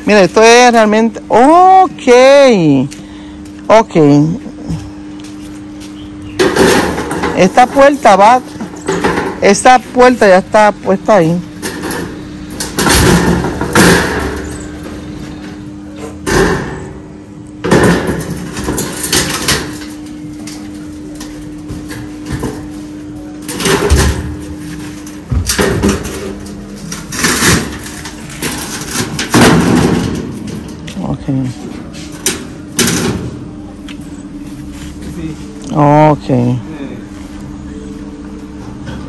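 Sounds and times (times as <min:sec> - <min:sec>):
steady hum: 0:00.0 - 0:39.0.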